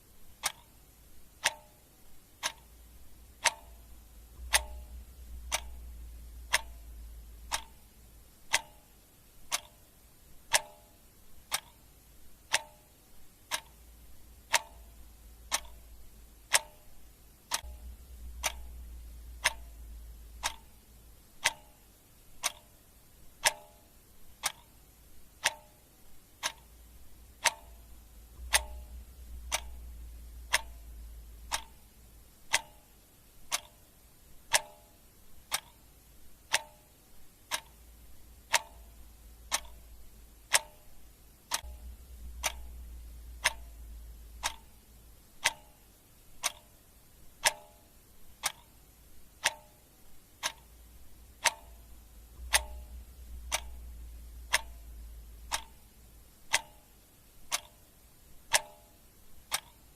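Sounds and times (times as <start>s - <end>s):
clock ticking: 0.0s - 59.9s
faint low hum: 0.0s - 59.9s.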